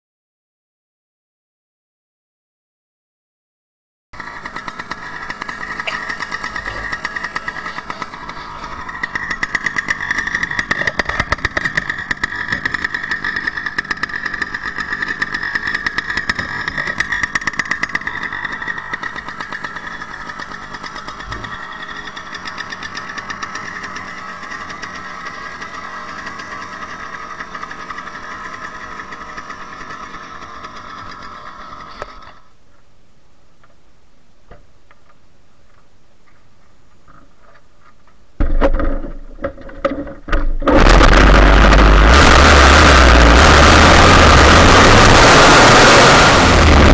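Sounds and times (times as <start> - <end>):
small two-stroke engine idling: 4.2 - 32.6, 37.2 - 46.9.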